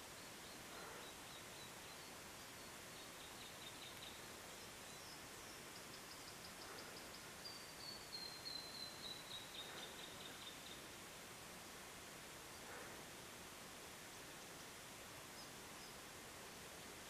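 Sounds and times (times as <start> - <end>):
quiet hiss of bush: 0.0 - 17.0.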